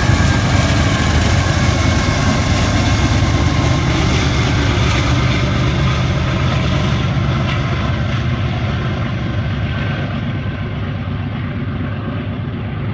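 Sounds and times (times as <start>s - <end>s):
diesel locomotives rumbling: 0.0s - 12.9s.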